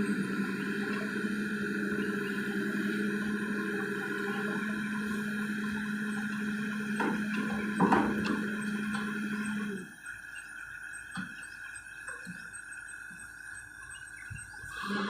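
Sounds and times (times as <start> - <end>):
excavator engine humming: 0.0 - 15.0.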